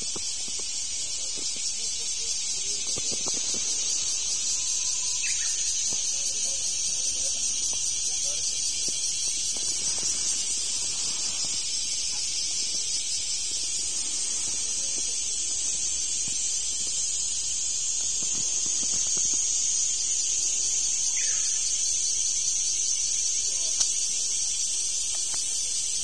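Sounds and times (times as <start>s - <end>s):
cicadas buzzing: 0.0s - 26.0s.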